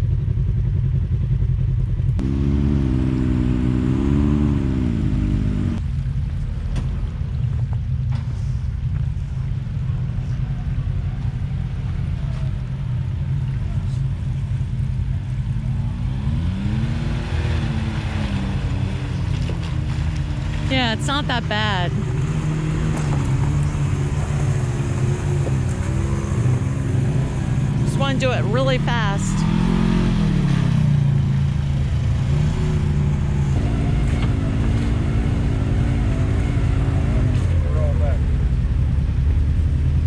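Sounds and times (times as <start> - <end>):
utility vehicle engine under load: 0.0 - 40.0.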